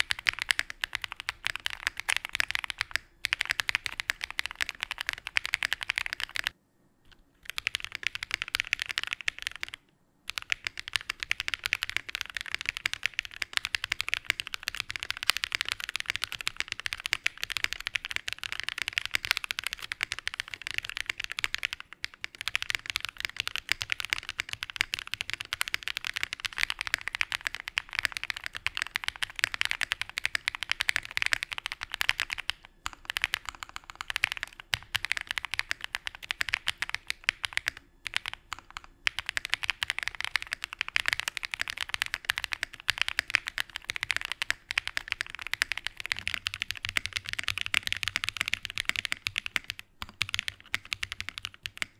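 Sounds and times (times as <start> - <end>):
mechanical keyboard typing: 0.0 - 51.9.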